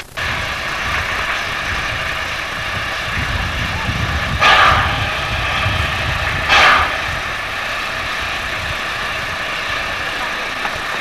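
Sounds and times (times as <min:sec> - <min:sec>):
steam hiss: 0:00.0 - 0:11.0
steam locomotive low rumble: 0:00.0 - 0:11.0.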